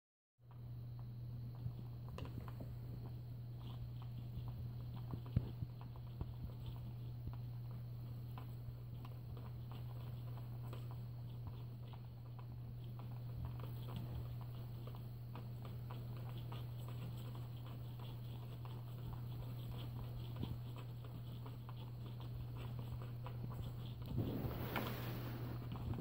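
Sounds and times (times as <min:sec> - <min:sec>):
steady low hum: 0:00.4 - 0:26.0.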